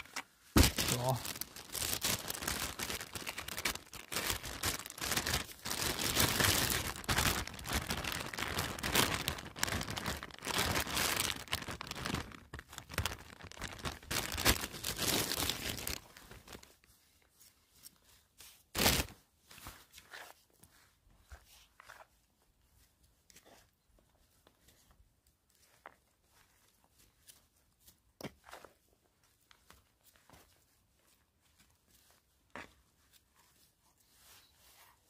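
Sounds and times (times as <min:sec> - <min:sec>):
crinkling rustle of handling: 0:00.0 - 0:35.0.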